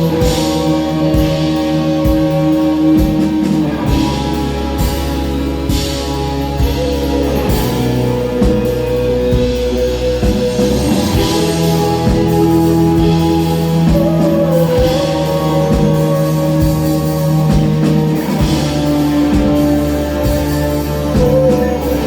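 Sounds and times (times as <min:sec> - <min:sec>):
guitar chords and melody: 0:00.0 - 0:22.0
steady drum beat: 0:00.0 - 0:22.0.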